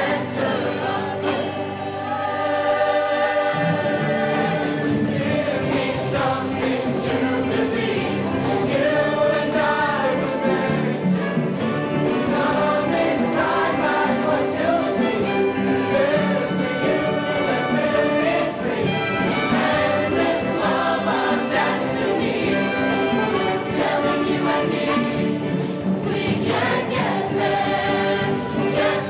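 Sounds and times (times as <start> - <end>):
choir singing in harmony: 0.0 - 29.0.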